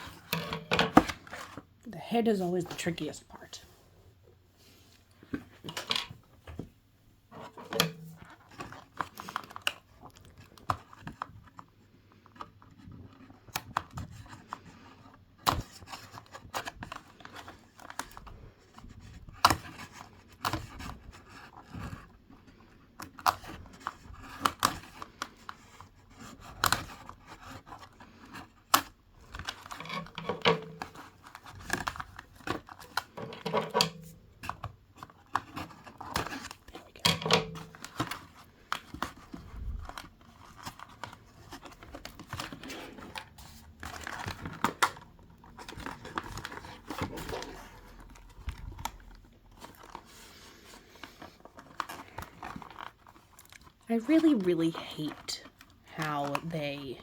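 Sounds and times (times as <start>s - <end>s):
plastic packaging clicking and crinkling: 5.1s - 54.2s, 55.1s - 57.0s.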